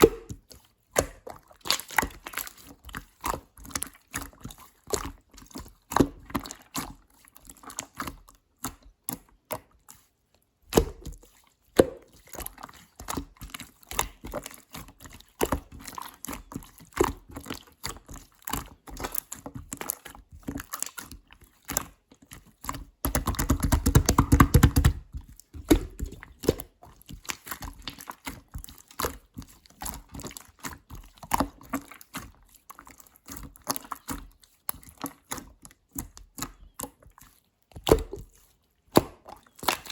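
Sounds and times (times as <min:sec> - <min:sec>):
slime squelching and popping: 0:00.0 - 0:10.0, 0:10.6 - 0:39.9.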